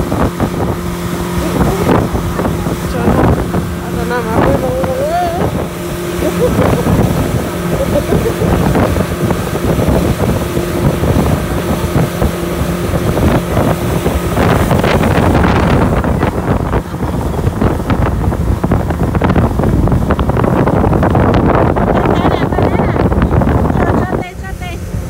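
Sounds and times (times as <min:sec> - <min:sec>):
motorboat engine humming: 0:00.0 - 0:25.0
water noise: 0:00.0 - 0:25.0
wind rushing over microphone: 0:00.0 - 0:25.0.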